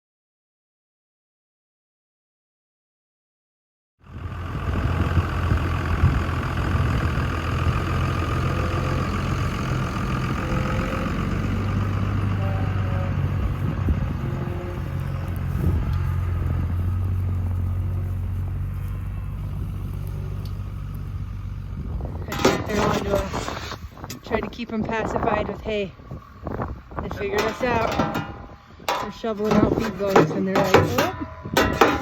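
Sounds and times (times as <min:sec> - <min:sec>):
vehicle engine humming: 0:04.0 - 0:32.0.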